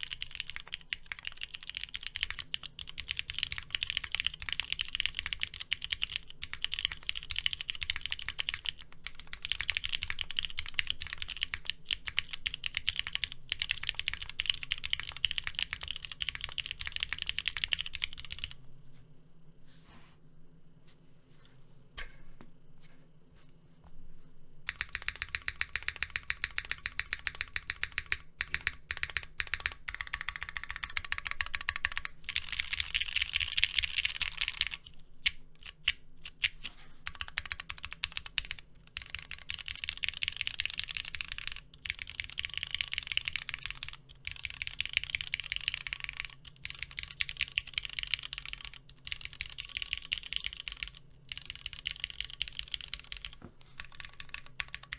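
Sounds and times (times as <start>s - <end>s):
mechanical keyboard typing: 0.0s - 18.6s, 24.7s - 54.9s.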